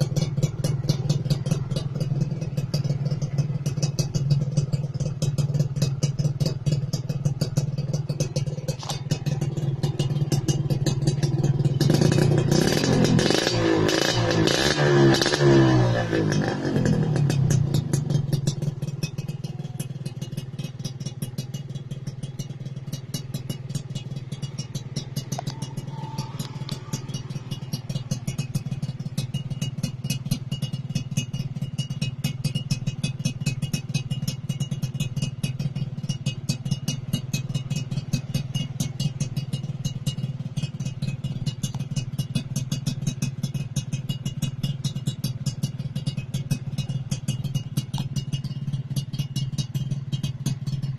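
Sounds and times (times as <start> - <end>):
exhaust crackling: 0.0 - 50.9
motorcycle engine idling: 0.0 - 50.9.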